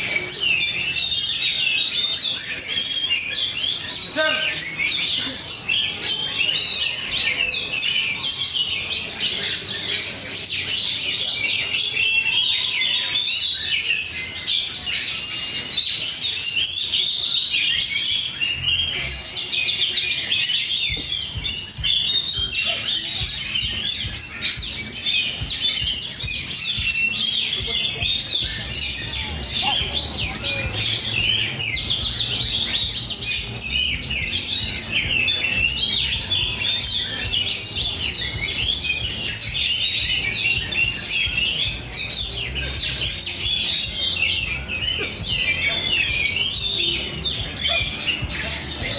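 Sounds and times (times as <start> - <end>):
songbirds twittering: 0.0 - 48.9.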